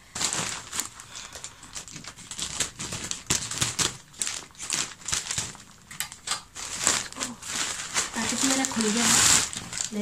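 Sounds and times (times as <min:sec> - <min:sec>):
plastic crinkling: 0:00.0 - 0:10.0
scissors cutting plastic: 0:01.4 - 0:10.0.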